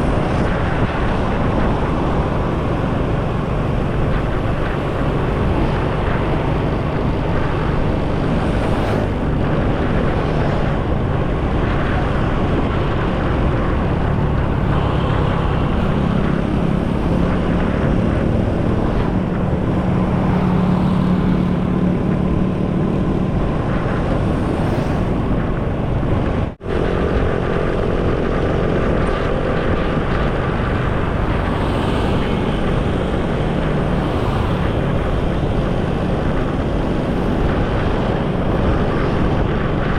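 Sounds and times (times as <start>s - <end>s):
motorcycle engine: 0.0s - 39.9s
road noise: 0.0s - 39.9s
wind noise: 0.0s - 39.9s.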